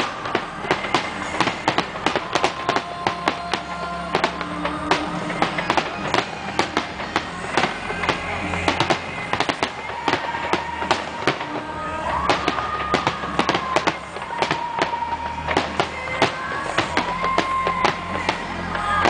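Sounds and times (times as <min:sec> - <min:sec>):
fireworks bangs: 0:00.0 - 0:19.0
music playing: 0:00.0 - 0:19.0.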